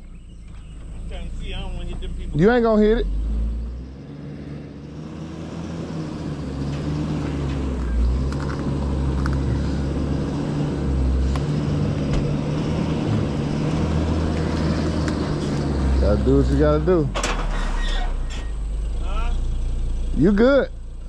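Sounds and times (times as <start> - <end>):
vehicle engine running at low speed: 0.0 - 21.0.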